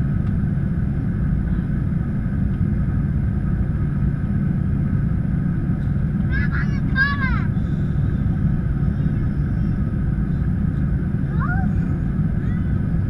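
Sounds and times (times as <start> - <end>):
faint steady whine: 0.0 - 13.0
jet cabin engine rumble: 0.0 - 13.0.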